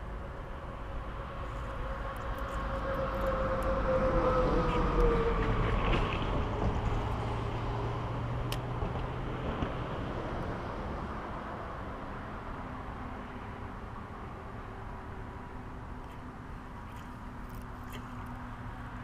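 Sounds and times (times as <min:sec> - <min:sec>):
outdoor background rumble and hiss: 0:00.0 - 0:19.0
vehicle engine hum: 0:00.0 - 0:19.0.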